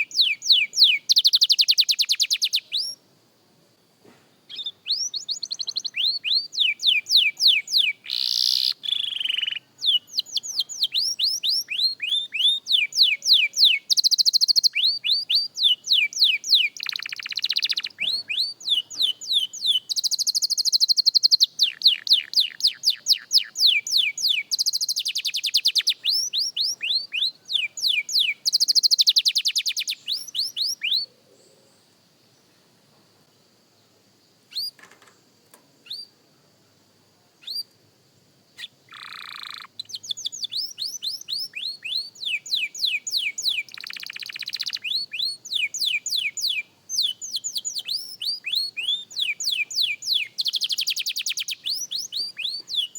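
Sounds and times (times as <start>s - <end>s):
canary singing: 0.0s - 3.0s, 4.5s - 31.1s, 34.5s - 34.8s, 35.8s - 36.1s, 37.4s - 37.7s, 38.6s - 52.9s.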